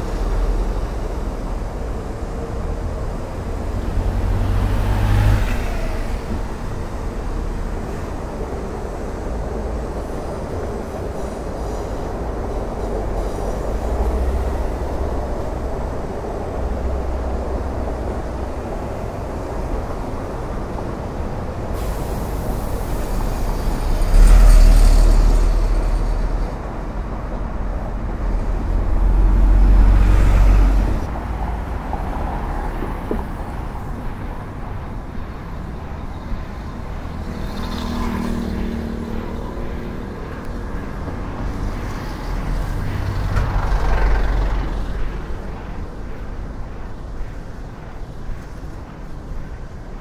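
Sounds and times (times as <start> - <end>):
road traffic driving past: 0.0 - 50.0.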